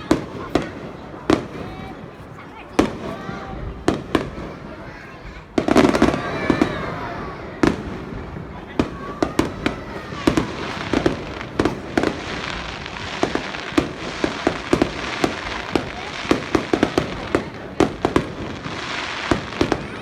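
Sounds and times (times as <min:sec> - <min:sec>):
fireworks bangs: 0:00.0 - 0:20.0
fireworks crackling and rumble: 0:00.0 - 0:20.0.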